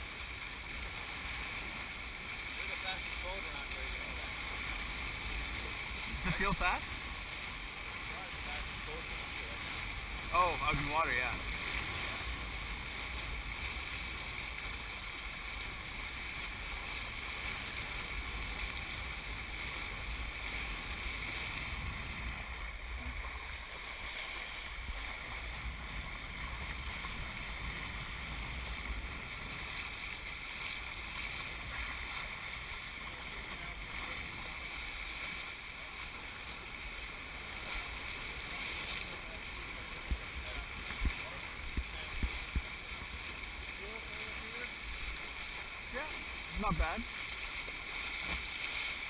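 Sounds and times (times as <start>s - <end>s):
wind rumble on microphone: 0.0s - 35.3s, 36.2s - 46.8s
water rushing along hulls: 0.0s - 49.0s.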